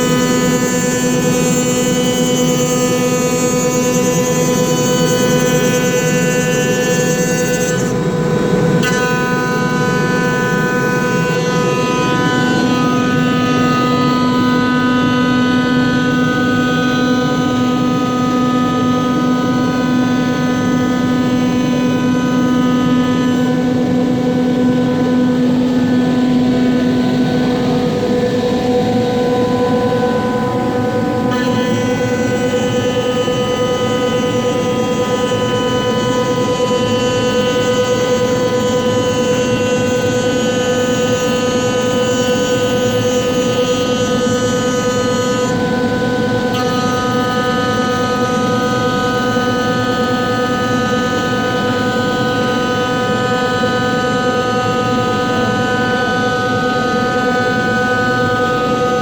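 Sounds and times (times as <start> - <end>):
machine spindle hum: 0.0 - 59.0.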